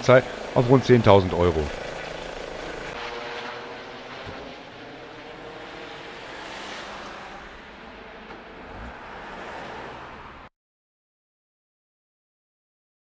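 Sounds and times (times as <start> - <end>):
helicopter rotor and turbine: 0.0 - 10.5.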